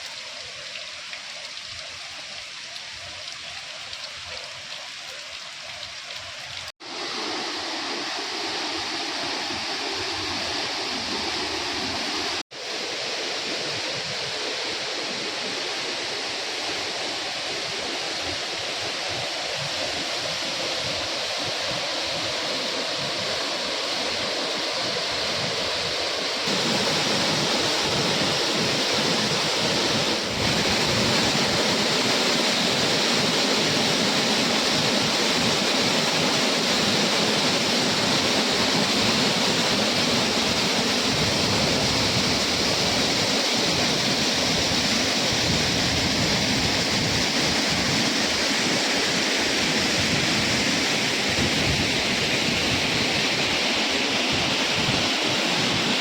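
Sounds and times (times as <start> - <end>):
waterfall rushing and splashing: 0.0 - 56.0.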